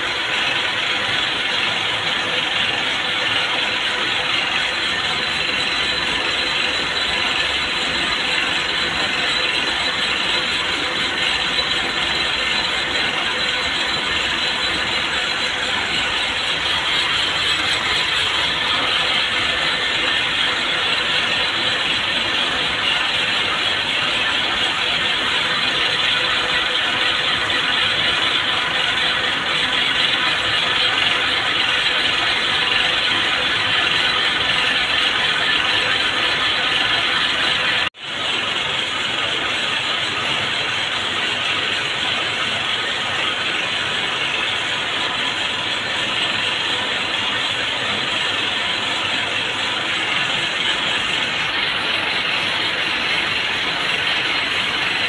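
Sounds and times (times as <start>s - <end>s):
cord-making machines clattering: 0.0s - 55.0s.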